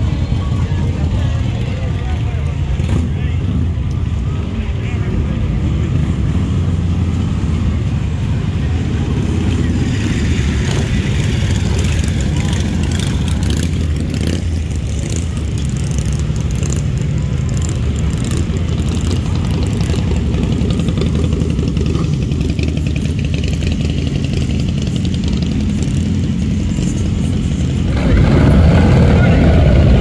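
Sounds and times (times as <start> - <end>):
motorcycle engines rumbling: 0.0 - 30.0.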